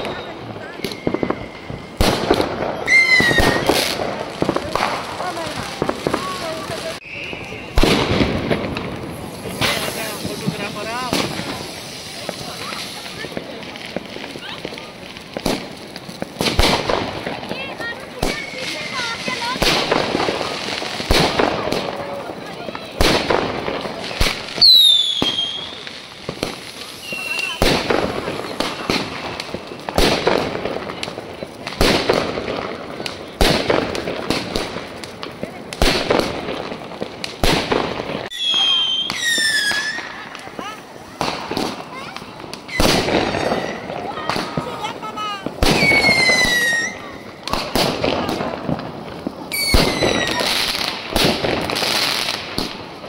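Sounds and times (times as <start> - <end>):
firework bangs with crackle: 0.0 - 53.0
small firework pops: 0.0 - 53.0.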